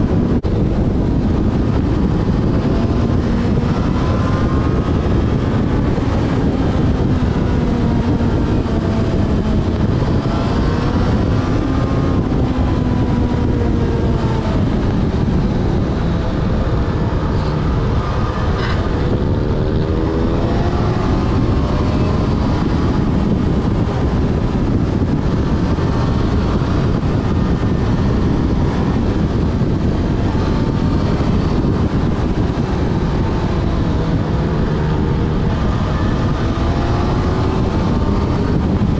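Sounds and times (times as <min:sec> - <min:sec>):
motorcycle engine running: 0:00.0 - 0:38.9
wind rush over camera: 0:00.0 - 0:38.9.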